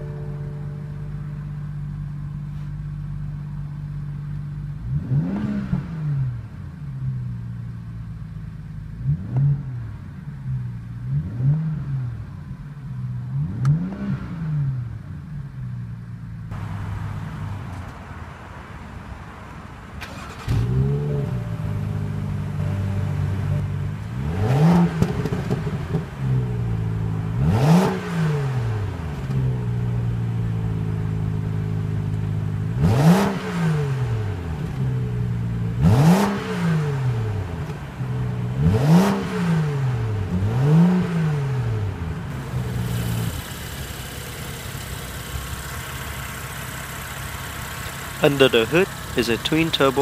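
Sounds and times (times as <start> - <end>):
car engine starting and revving: 0.0 - 50.0.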